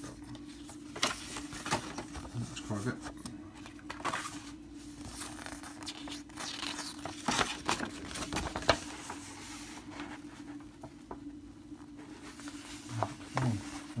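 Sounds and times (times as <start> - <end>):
cardboard and paper rustling: 0.0 - 11.2, 11.9 - 14.0
faint steady hum: 0.0 - 14.0.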